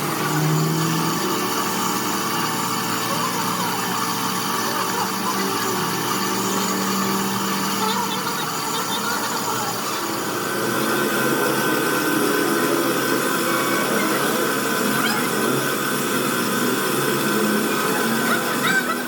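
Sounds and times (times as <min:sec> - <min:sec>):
power tool running: 0:00.0 - 0:19.0
thin high whine: 0:00.0 - 0:19.0.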